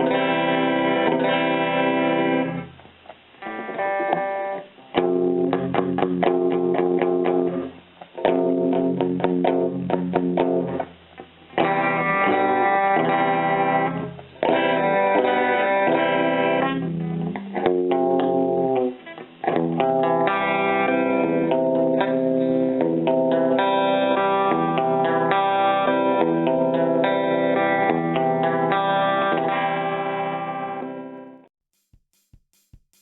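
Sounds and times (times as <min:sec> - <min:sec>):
electric guitar chords: 0:00.0 - 0:31.5.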